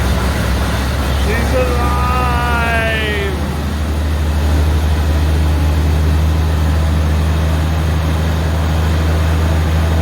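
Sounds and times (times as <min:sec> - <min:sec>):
harvester engine idling: 0:00.0 - 0:10.0.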